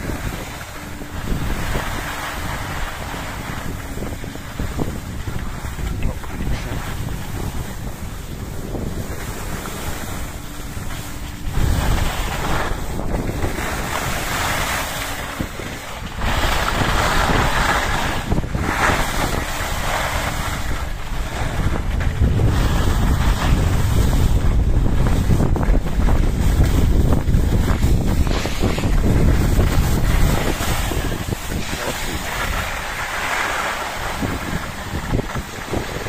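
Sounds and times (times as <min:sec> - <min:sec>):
skis scraping on snow: 0:00.0 - 0:36.0
wind buffeting microphone: 0:00.0 - 0:36.0.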